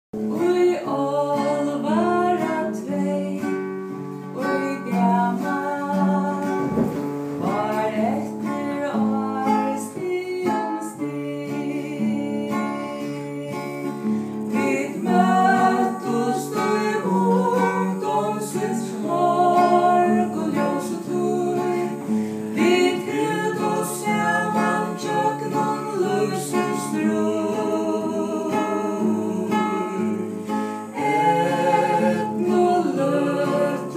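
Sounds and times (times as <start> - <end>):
acoustic guitar chords: 0.2 - 33.9
person singing with vibrato: 0.2 - 33.9.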